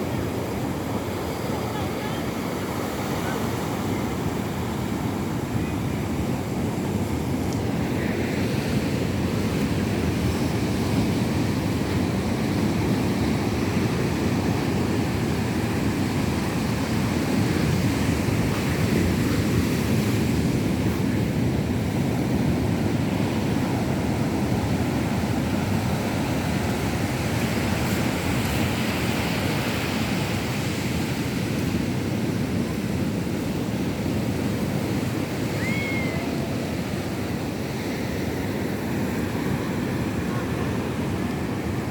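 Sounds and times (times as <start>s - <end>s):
waves breaking on a beach: 0.0s - 41.9s.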